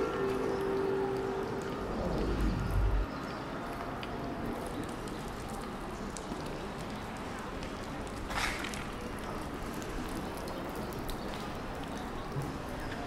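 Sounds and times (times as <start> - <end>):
light rain: 0.0 - 13.0
water drips: 0.0 - 13.0.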